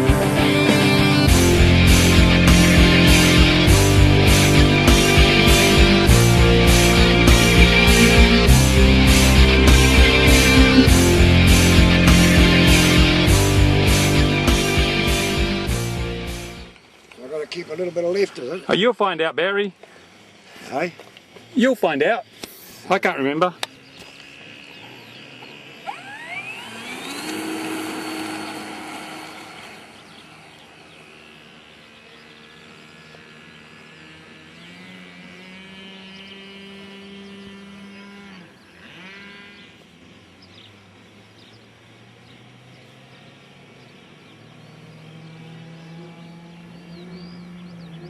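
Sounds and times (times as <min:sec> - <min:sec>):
model plane motor whine: 0:00.0 - 0:15.8, 0:20.0 - 0:21.5, 0:22.4 - 0:48.0.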